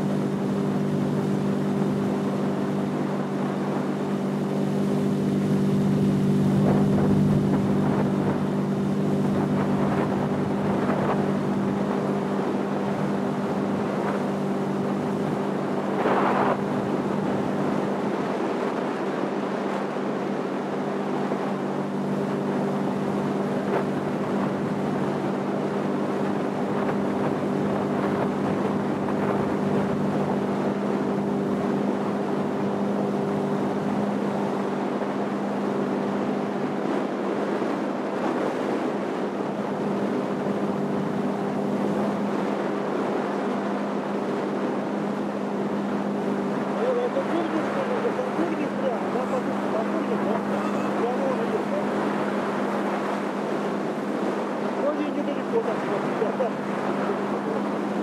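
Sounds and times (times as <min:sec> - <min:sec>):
wind on microphone: 0:00.0 - 0:54.8
motorboat engine droning: 0:00.0 - 0:58.0
rushing water: 0:00.0 - 0:58.0.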